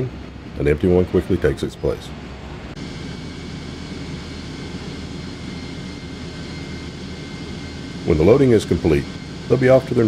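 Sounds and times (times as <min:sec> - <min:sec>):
jet aircraft noise: 0:00.0 - 0:10.0.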